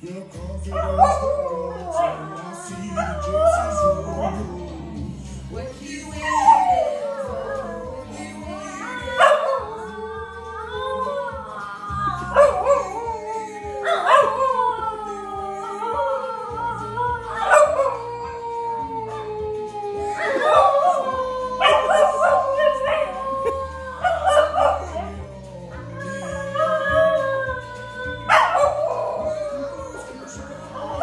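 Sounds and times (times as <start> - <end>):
song with bass beat: 0.0 - 31.0
dogs howling: 0.7 - 5.2, 5.8 - 31.0.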